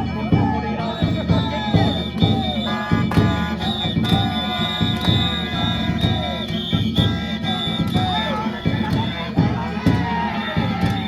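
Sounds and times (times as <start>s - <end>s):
drum beating: 0.0s - 11.0s.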